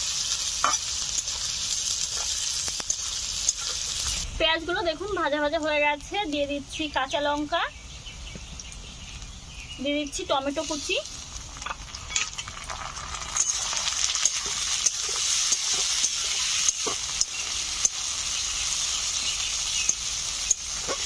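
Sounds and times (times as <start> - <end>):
tomatoes sizzling in oil: 0.0 - 21.0.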